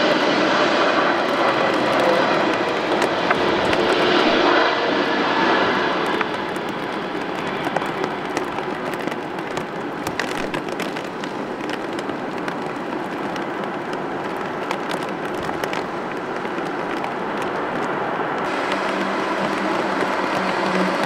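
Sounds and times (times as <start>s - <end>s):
distant jet engines roaring: 0.0s - 21.0s
jet noise crackles: 0.0s - 21.0s.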